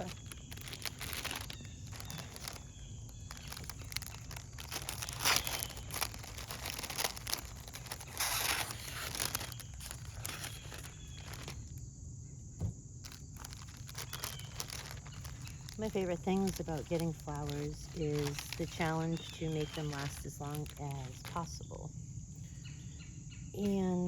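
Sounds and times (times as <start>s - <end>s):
flowers rustling and crinkling: 0.0s - 11.9s, 13.0s - 21.8s, 23.6s - 24.0s.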